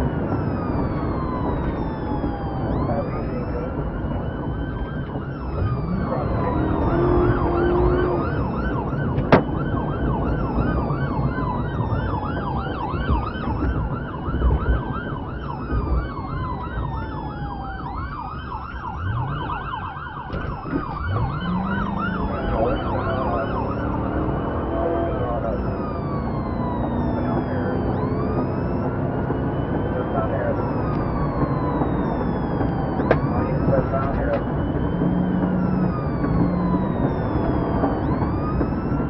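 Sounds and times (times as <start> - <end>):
car engine revving: 0.0 - 11.9, 18.9 - 39.0
police siren wailing and yelping: 0.0 - 39.0.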